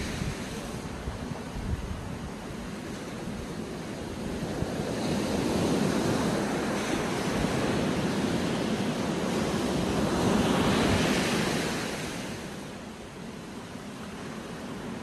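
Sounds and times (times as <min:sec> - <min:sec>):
sea surf breaking over rocks: 0:00.0 - 0:15.0.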